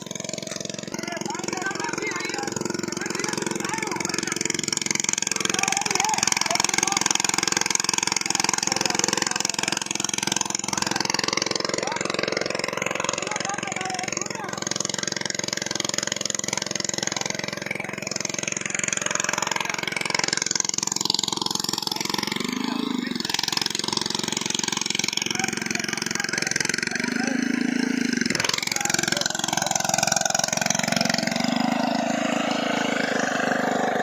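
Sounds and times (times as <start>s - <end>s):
small engine running: 0.0s - 34.0s.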